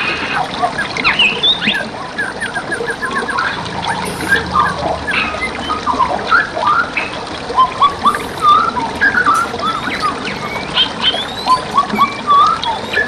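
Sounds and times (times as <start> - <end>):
songbirds singing: 0.0 - 13.0
stream water trickling: 0.0 - 13.0.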